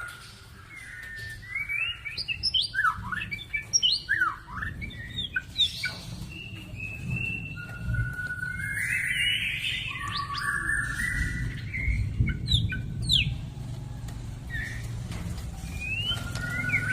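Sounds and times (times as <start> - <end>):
bird singing whistled notes: 0.0 - 13.4, 14.5 - 15.0, 15.6 - 16.9.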